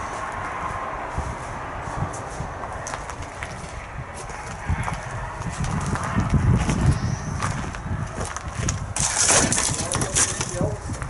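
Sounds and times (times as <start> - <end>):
footsteps over twigs and leaves: 0.0 - 11.0.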